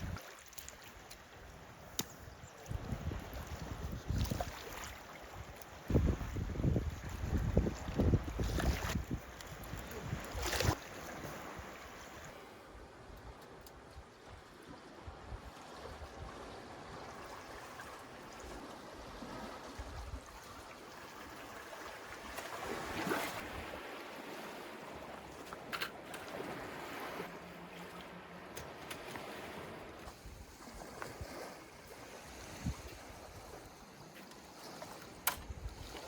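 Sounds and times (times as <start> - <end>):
sea water sloshing: 0.0 - 12.4, 14.5 - 36.0.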